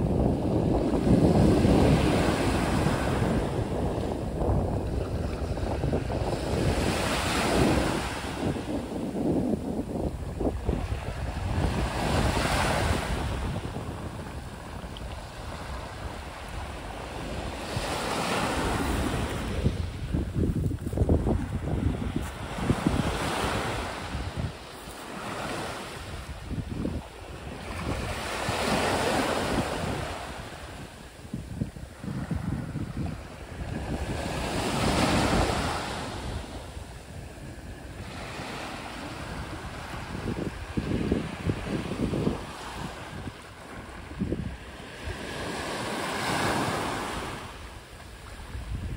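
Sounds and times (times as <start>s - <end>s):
wind rumble on microphone: 0.0s - 48.9s.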